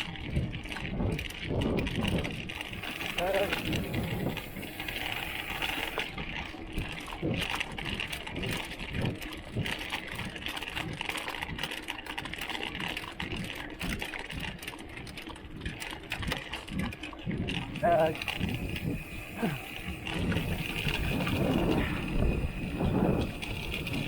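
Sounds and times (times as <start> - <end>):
bike tyre noise on rough trail: 0.0 - 24.0.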